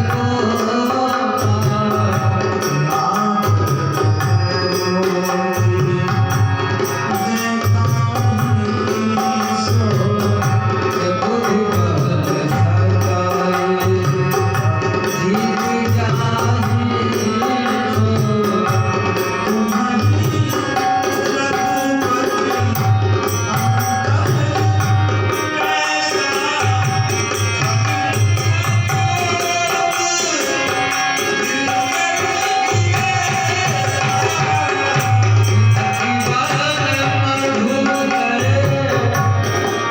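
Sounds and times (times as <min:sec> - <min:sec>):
dholak drum rhythm: 0:00.0 - 0:39.9.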